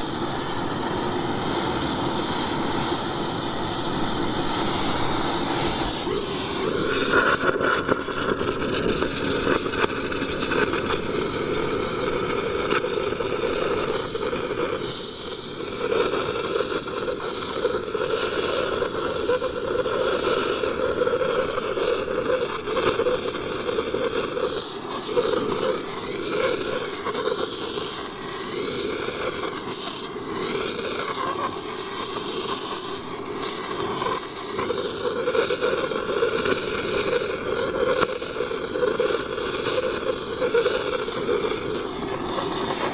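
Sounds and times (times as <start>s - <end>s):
torch flame hissing: 0.0s - 42.9s.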